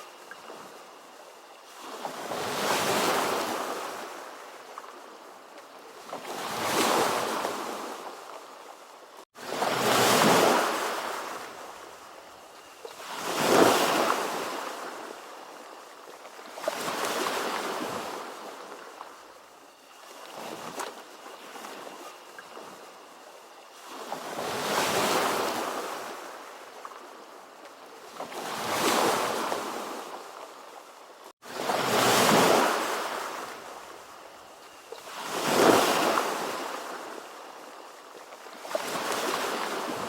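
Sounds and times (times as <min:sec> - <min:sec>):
ocean waves washing in: 0:00.0 - 0:40.0.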